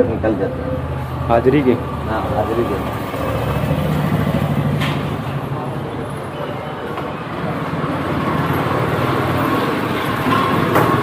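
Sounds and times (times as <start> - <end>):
motor vehicle running: 0.0 - 11.0
road traffic rumble: 0.0 - 11.0.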